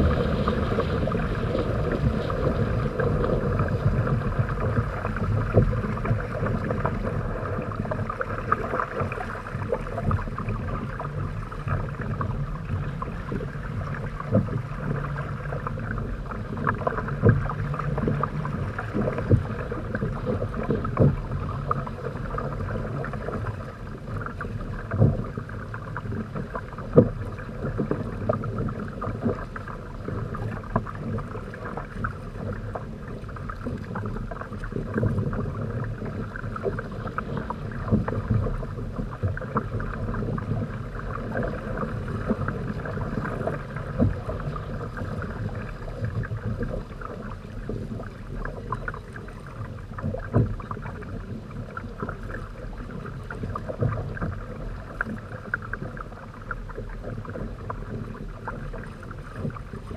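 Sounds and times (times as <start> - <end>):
water slapping against hull: 0.0 - 59.9
water washing against hull: 0.0 - 59.9.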